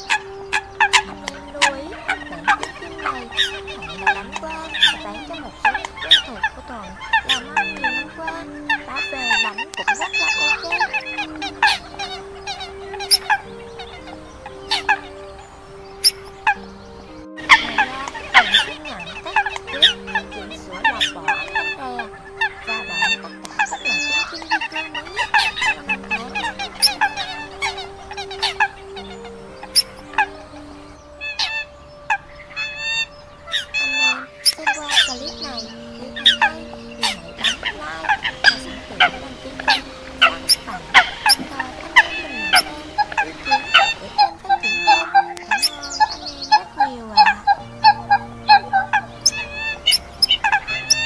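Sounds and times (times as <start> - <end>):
coots calling sharp high notes: 0.0 - 51.0
drawn-out nasal bird calls: 0.0 - 51.0.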